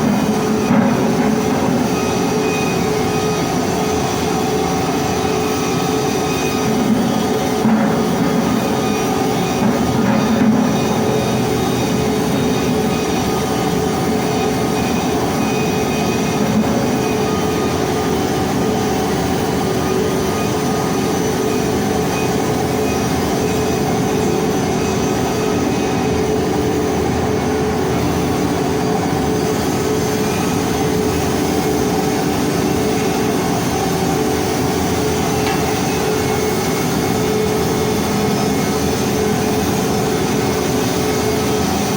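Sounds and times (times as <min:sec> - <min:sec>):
machine hum: 0:00.0 - 0:41.9.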